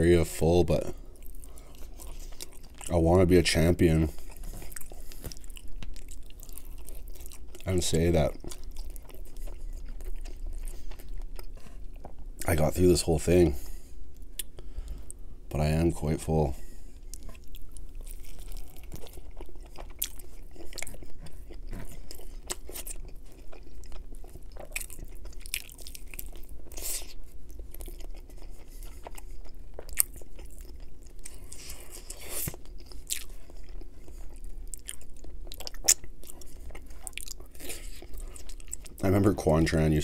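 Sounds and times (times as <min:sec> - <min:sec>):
chewing and mouth smacks: 0:01.2 - 0:02.9, 0:04.1 - 0:12.5, 0:17.1 - 0:39.0.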